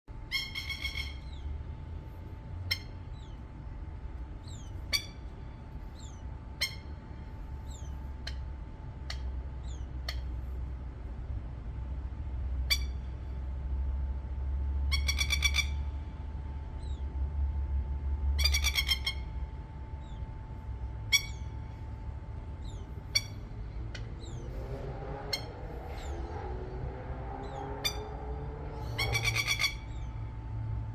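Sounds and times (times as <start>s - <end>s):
plover calling: 0.2s - 3.6s, 4.3s - 10.8s, 12.5s - 13.5s, 14.7s - 17.4s, 18.0s - 26.5s, 27.4s - 30.6s.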